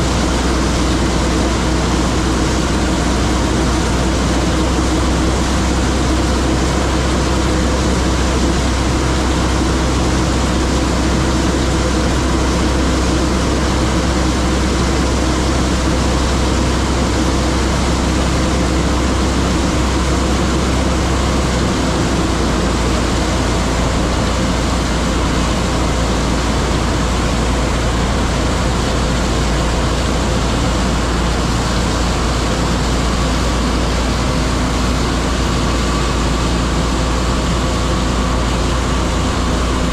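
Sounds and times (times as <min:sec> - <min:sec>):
heavy farm machinery running: 0:00.0 - 0:39.9.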